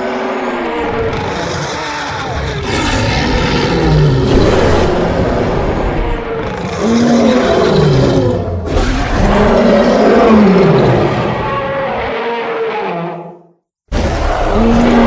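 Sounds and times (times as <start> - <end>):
giant creature roars: 0.0 - 15.0.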